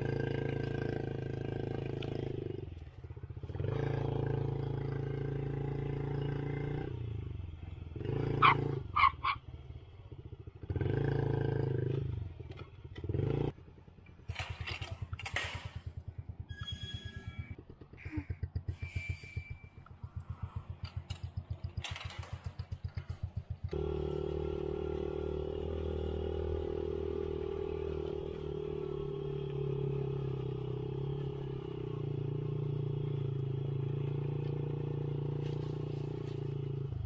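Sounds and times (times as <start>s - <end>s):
dirt bike engine: 0.0s - 37.0s.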